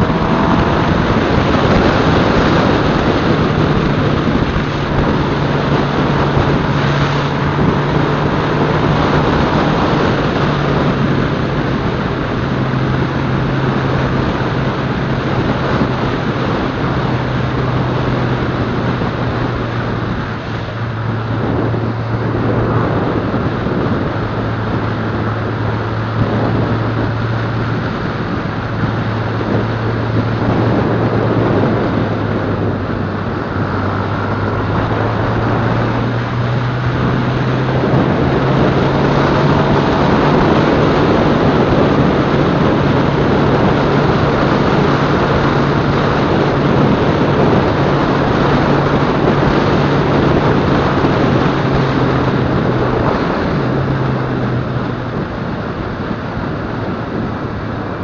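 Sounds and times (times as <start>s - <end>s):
motorcycle engine running: 0.0s - 58.0s
road noise: 0.0s - 58.0s
wind rushing: 0.0s - 58.0s.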